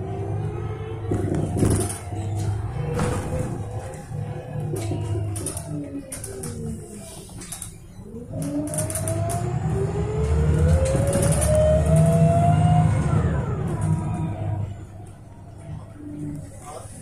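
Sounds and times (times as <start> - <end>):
bus engine rumble: 0.0 - 17.0
rising bus whine: 0.0 - 17.0.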